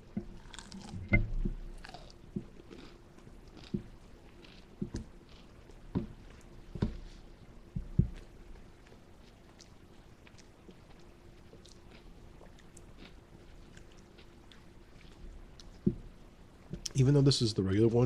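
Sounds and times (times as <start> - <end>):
person chewing crispy food: 0.0 - 16.2.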